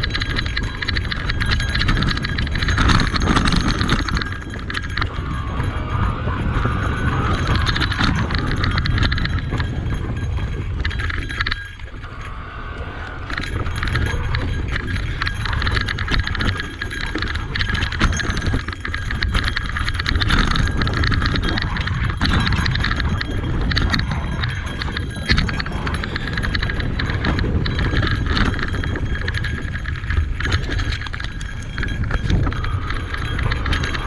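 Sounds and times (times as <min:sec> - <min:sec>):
bike clattering and rattling: 0:00.0 - 0:34.0
low rumble: 0:00.0 - 0:34.0.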